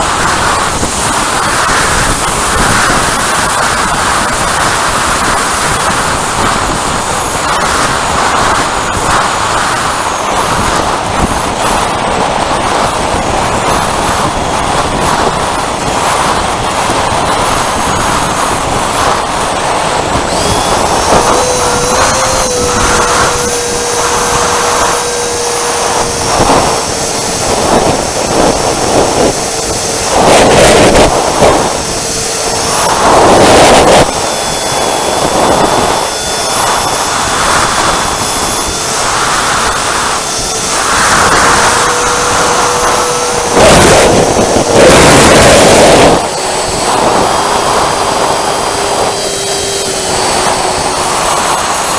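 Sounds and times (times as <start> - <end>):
electric ducted fan whine: 0.0 - 51.9
wind noise on microphone: 0.0 - 51.9.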